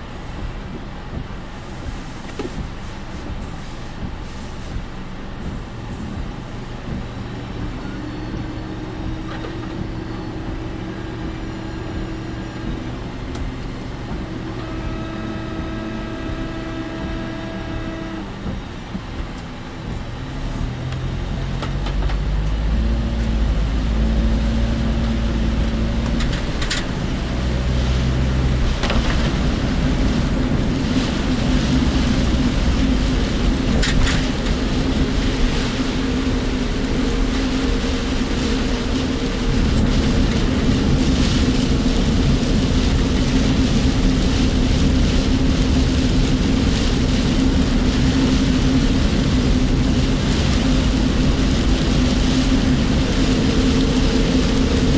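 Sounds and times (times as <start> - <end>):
car engine hum: 0.0 - 54.9
road noise: 0.0 - 54.9.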